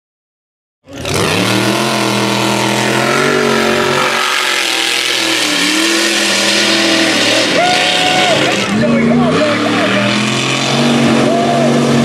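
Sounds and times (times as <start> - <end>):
truck engine at high revs: 0.8 - 12.0.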